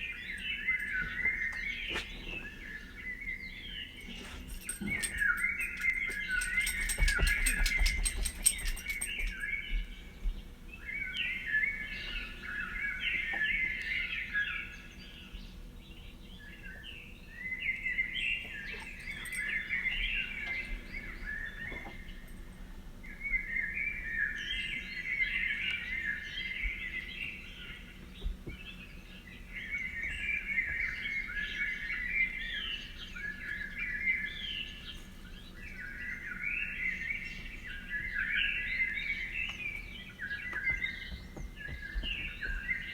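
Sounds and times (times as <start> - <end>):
songbird chirping warbles: 0.0 - 42.9.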